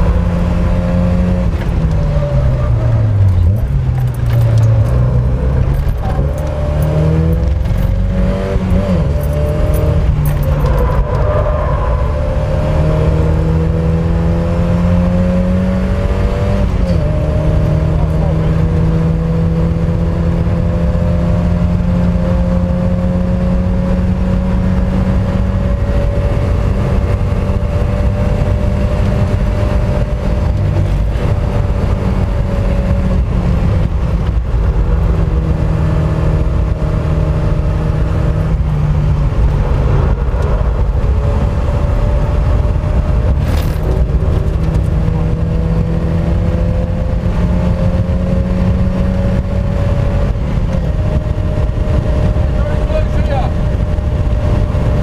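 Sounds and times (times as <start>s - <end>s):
car engine under load: 0.0s - 55.0s
wind and road noise: 0.0s - 55.0s.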